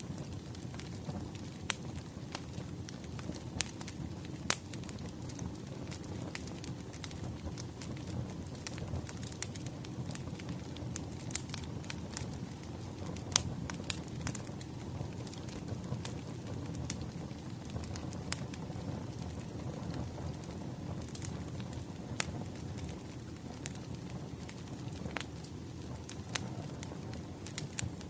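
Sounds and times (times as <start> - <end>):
wood fire crackling: 0.0 - 28.0
loud fire pops: 0.1 - 28.0.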